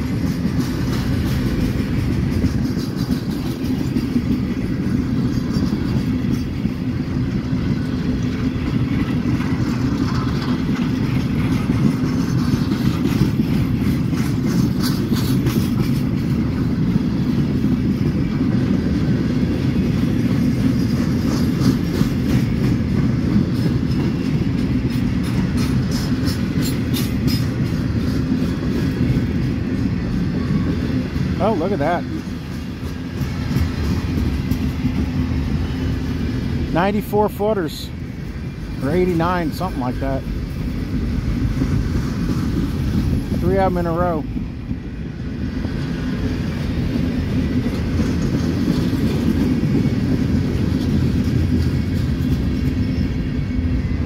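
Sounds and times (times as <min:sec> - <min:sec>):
wheels clicking over rail joints: 0:00.0 - 0:53.8
steel wheels rumbling on rail: 0:00.0 - 0:54.0.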